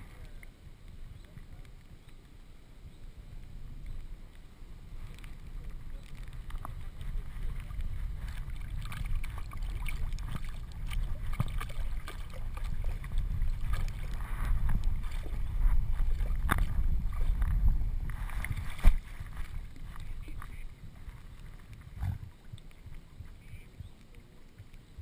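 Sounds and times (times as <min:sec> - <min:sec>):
camera rubbing low rumble: 0:03.2 - 0:25.0
water splashing and sloshing: 0:03.4 - 0:25.0.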